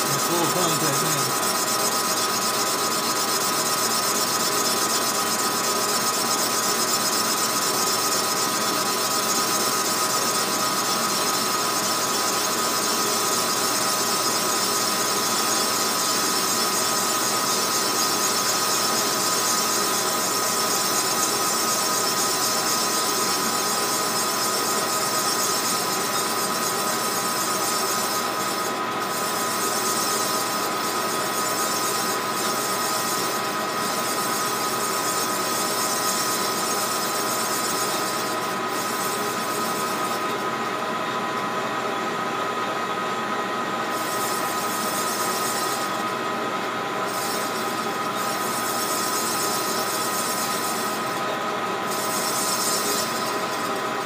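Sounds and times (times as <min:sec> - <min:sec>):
metal lathe whining: 0:00.0 - 0:54.0.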